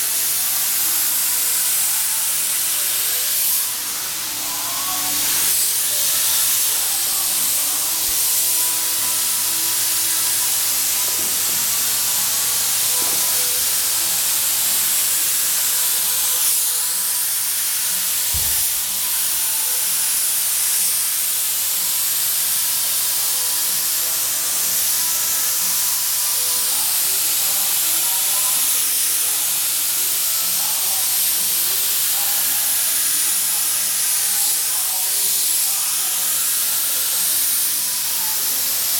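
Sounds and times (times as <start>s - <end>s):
spray gun hissing: 0.0s - 38.9s.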